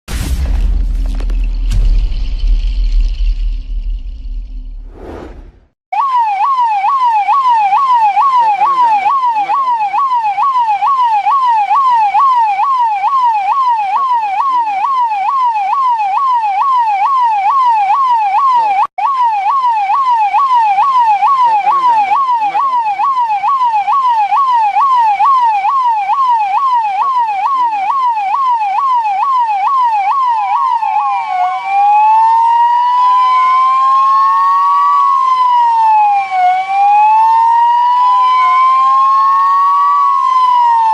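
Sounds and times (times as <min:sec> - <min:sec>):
electronic police siren: 0:06.0 - 0:40.9.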